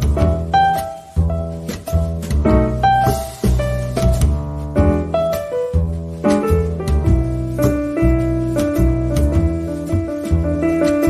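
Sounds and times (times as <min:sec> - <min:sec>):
piano and bass chords: 0:00.0 - 0:11.0
steady beat: 0:00.0 - 0:11.0.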